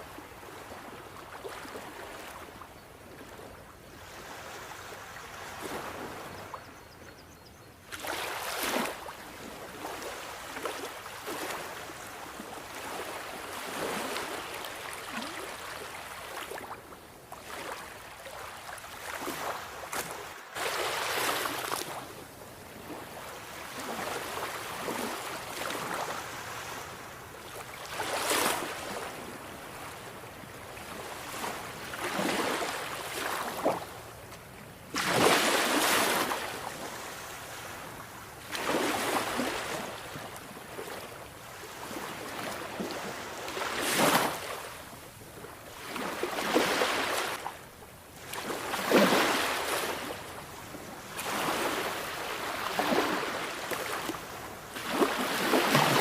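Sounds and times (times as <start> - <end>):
sea waves surf: 4.0 - 6.5, 7.9 - 16.8, 17.4 - 22.1, 22.7 - 34.2, 34.8 - 56.0.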